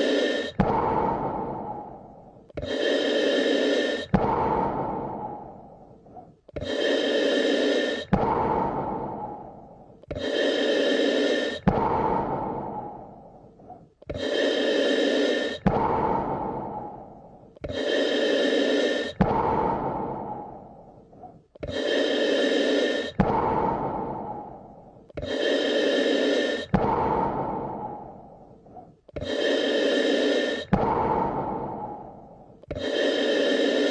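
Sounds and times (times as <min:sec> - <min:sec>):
slow human breathing: 0:00.0 - 0:33.9.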